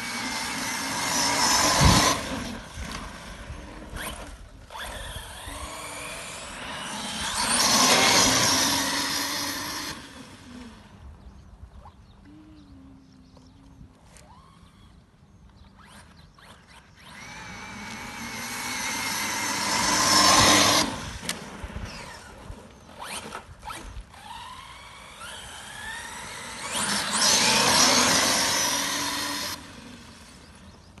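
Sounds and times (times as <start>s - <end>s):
toy car motor whining: 0.0s - 2.7s, 3.5s - 10.8s, 14.1s - 30.6s.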